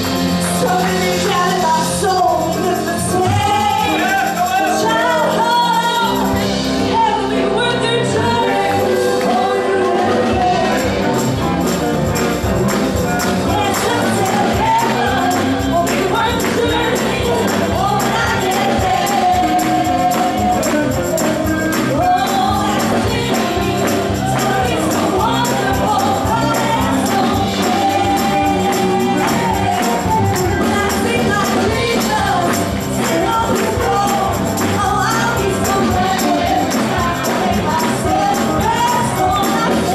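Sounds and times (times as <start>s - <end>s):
gospel singing with instruments: 0.0s - 39.9s.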